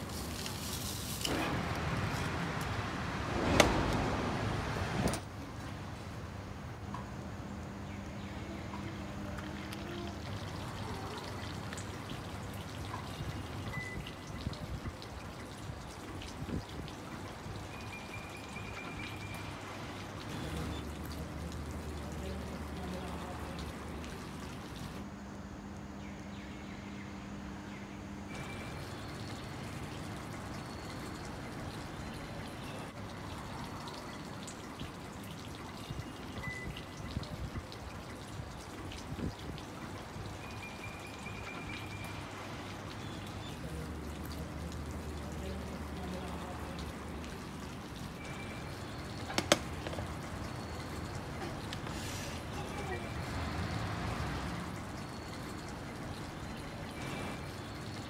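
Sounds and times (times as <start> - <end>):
steady rain: 0.0 - 6.9, 7.6 - 25.2, 28.2 - 58.0.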